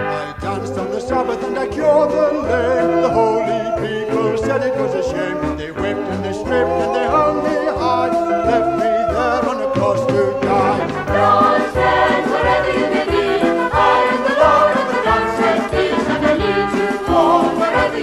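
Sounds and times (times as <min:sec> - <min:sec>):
vocal group singing in harmony: 0:00.0 - 0:18.0
low accompanying notes: 0:00.6 - 0:18.0.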